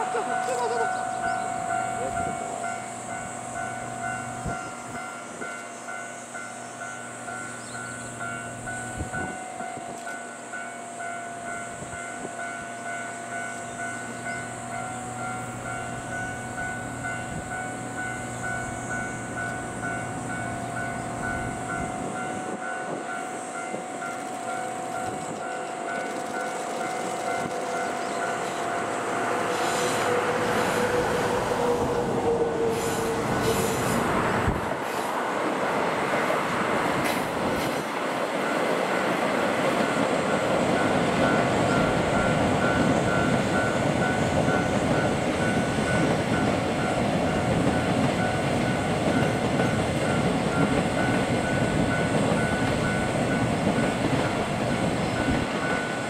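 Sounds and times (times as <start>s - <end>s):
diesel locomotive passing: 0.0s - 56.0s.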